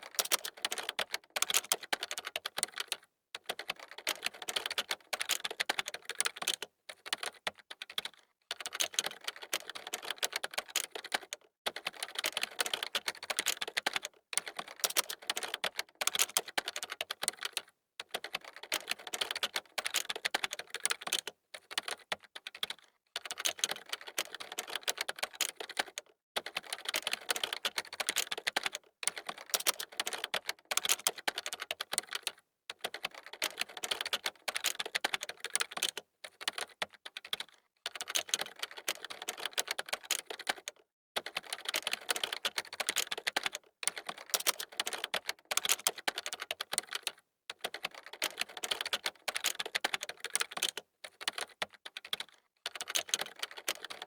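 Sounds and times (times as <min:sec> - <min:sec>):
fast typing on keyboard: 0:00.0 - 0:54.0.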